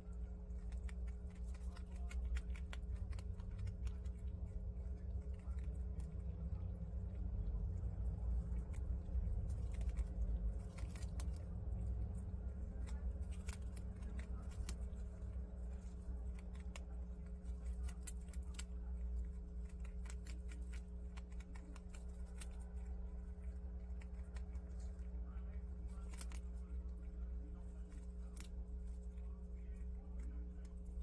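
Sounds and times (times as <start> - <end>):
animal chewing leaves: 0.0 - 31.0
low hum: 0.0 - 31.0.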